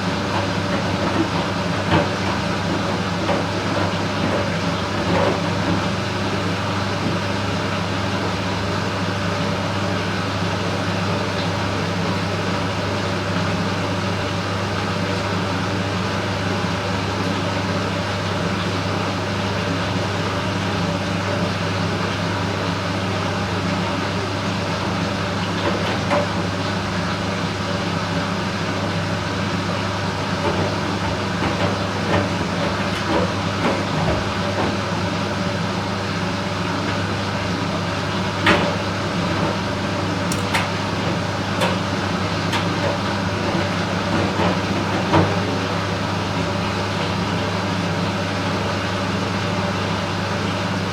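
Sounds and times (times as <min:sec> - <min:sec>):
washing machine humming: 0:00.0 - 0:50.9.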